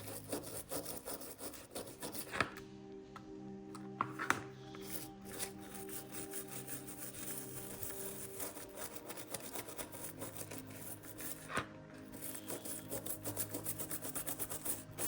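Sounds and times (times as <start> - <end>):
toothbrush scrubbing circuit board: 0.0 - 2.5, 4.8 - 15.0.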